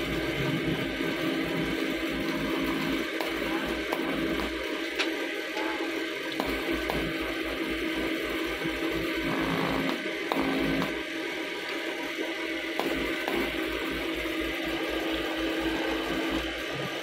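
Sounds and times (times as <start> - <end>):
welding arc buzzing: 0.0 - 17.0.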